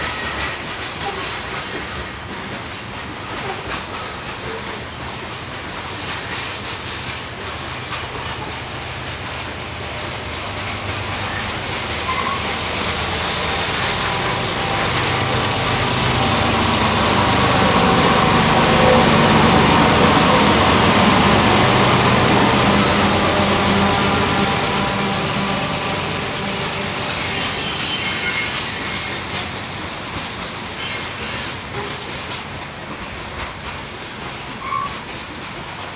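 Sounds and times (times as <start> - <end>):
diesel locomotive engine: 0.0 - 35.9
freight train rolling past: 0.0 - 35.9.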